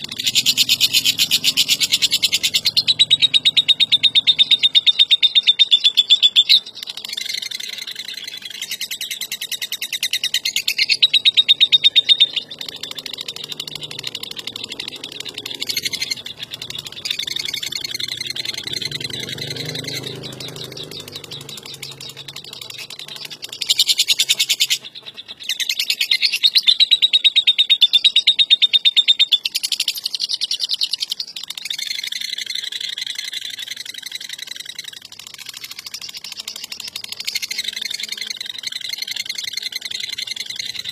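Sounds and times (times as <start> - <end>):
bird chattering trill: 0.0 - 40.9.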